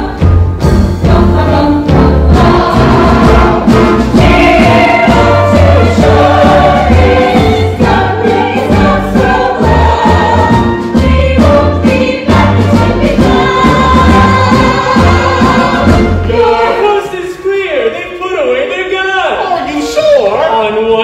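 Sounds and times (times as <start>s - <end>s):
ensemble singing in chorus: 0.0s - 17.2s
instrumental accompaniment: 0.0s - 17.2s.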